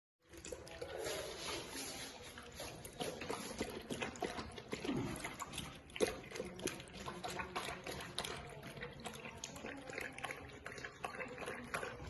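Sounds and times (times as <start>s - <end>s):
dogs smacking mouths: 0.2s - 12.0s.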